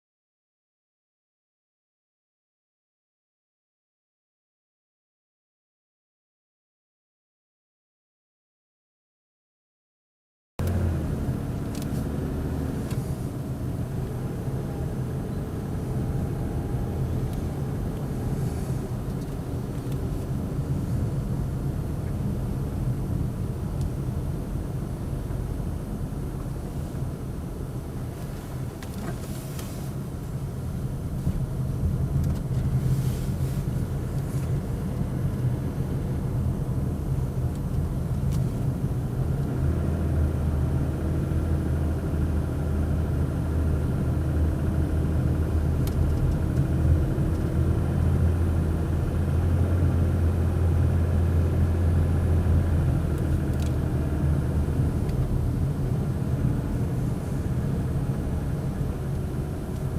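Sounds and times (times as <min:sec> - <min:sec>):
car engine droning: 0:10.6 - 0:59.9.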